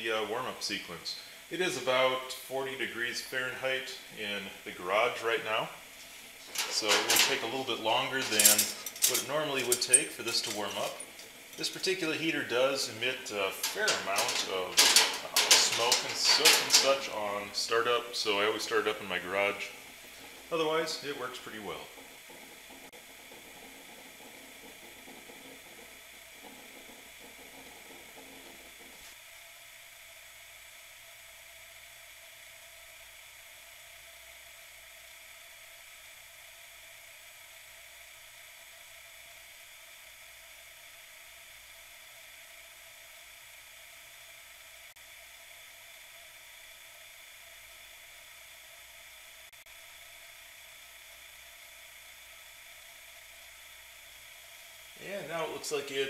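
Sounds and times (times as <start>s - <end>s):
heater burning with faint hiss: 0.0s - 56.0s.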